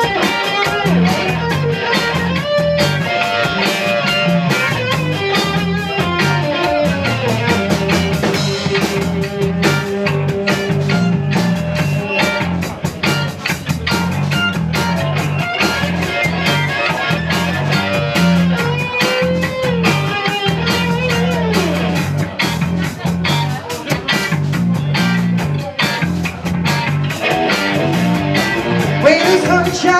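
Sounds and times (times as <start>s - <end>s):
rock band playing: 0.0s - 29.9s.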